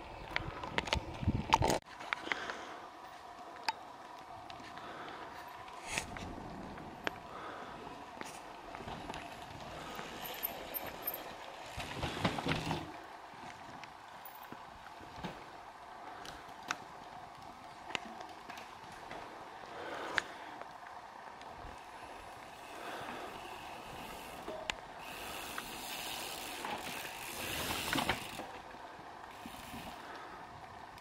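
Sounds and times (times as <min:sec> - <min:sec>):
mountain bikes passing: 0:00.0 - 0:31.0.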